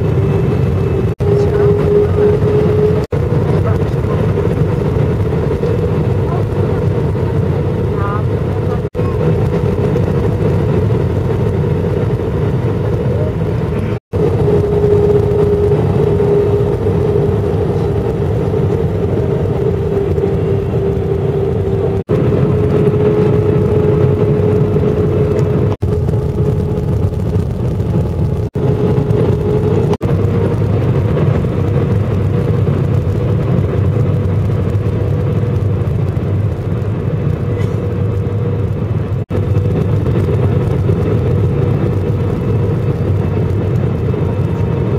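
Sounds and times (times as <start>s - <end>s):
airflow hum: 0.0s - 44.9s
jet engines rumbling: 0.0s - 44.9s.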